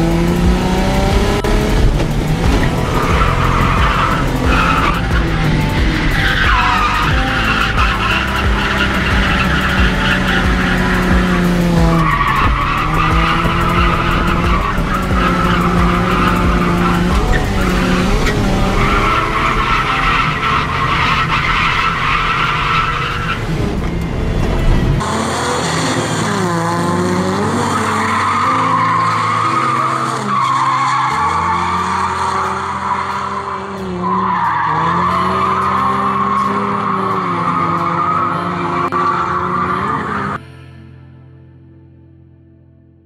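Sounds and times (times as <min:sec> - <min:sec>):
car engine revving: 0:00.0 - 0:40.4
music: 0:00.0 - 0:43.0
tyres squealing: 0:00.9 - 0:40.4.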